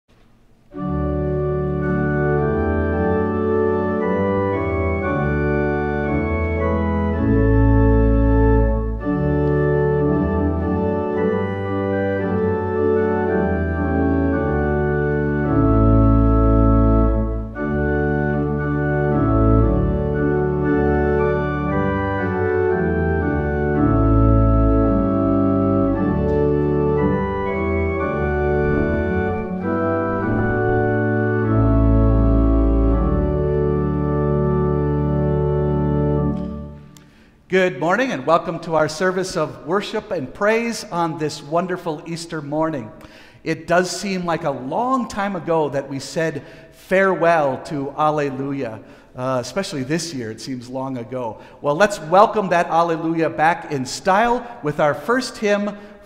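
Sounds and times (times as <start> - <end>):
organ playing chords: 0.1 - 56.0.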